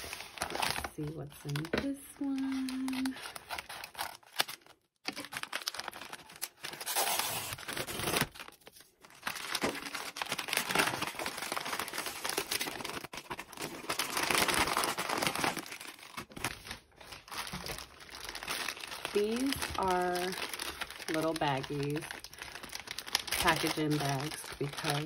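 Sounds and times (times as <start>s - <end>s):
paper bag crinkling and tearing: 0.0s - 25.0s
plastic wrapping rustling: 0.0s - 25.0s.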